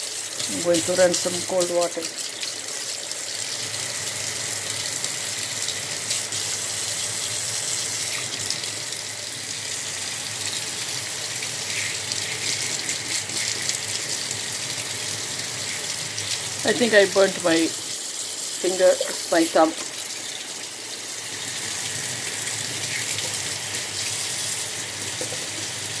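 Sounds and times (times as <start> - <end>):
faucet running water into sink: 0.0 - 26.0.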